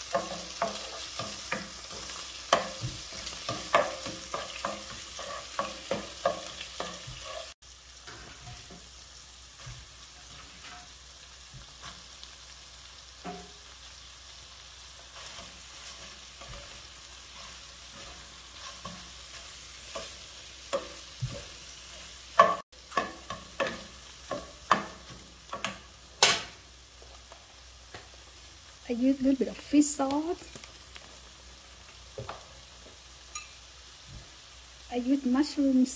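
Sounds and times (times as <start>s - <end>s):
food sizzling in frying pan: 0.0s - 35.9s.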